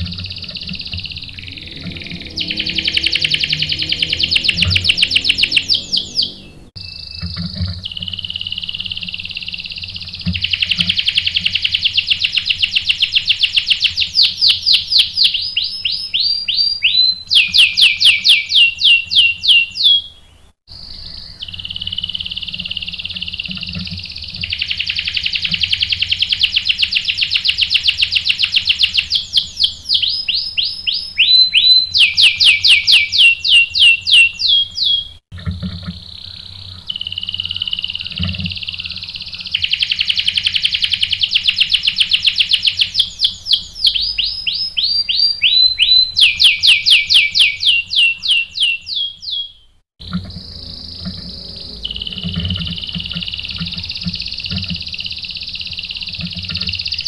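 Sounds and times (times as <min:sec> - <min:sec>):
canary singing: 0:00.0 - 0:35.2, 0:35.9 - 0:57.0.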